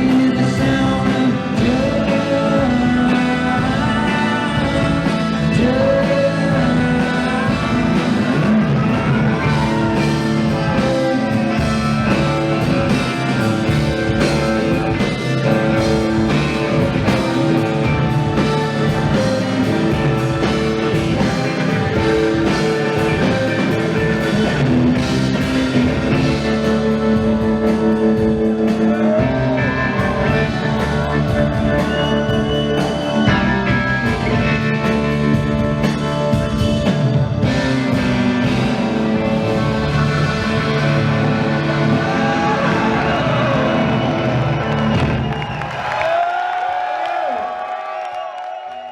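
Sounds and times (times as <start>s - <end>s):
rock band playing live: 0.0s - 46.2s.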